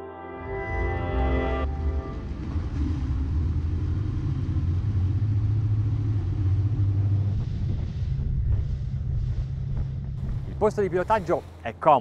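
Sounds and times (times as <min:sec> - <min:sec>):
outboard motors rumbling: 0:01.6 - 0:12.0.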